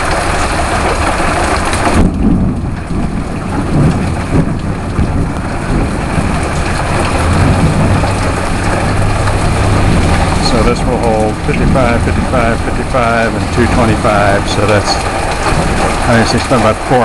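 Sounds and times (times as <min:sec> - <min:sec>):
heavy rain: 0:00.0 - 0:17.0
water splashing into barrels: 0:00.0 - 0:17.0.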